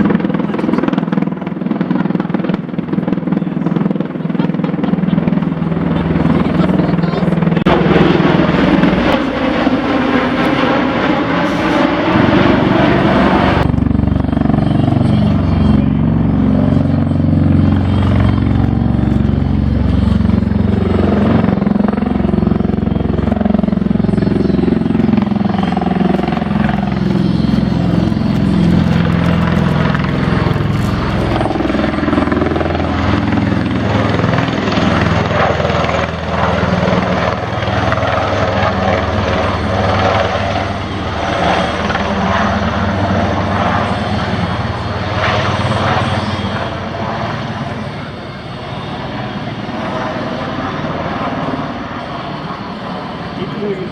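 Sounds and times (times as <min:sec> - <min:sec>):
aircraft rotor thrum: 0:00.0 - 0:44.4.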